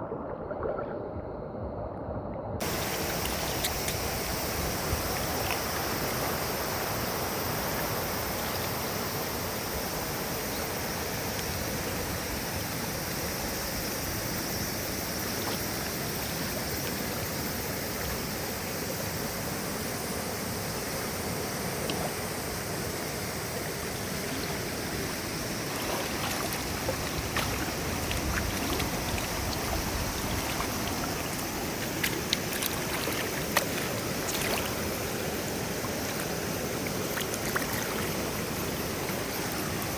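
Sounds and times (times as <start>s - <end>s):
river water rushing: 2.6s - 39.9s.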